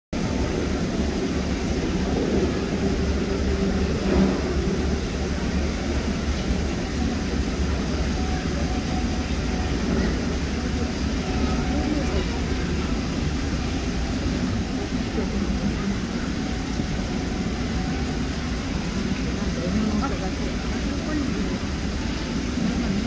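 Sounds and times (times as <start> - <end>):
faint indistinct murmur: 0.2 - 23.0.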